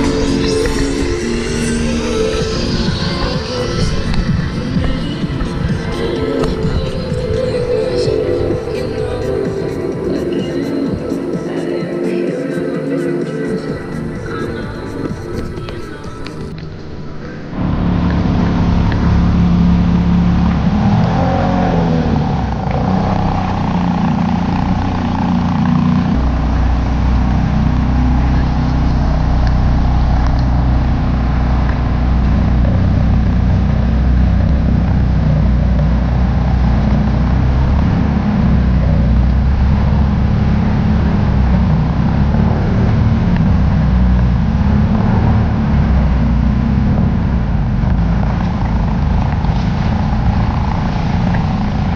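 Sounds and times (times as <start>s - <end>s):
car engine and road noise: 0.0s - 51.9s
low drone: 0.0s - 51.9s.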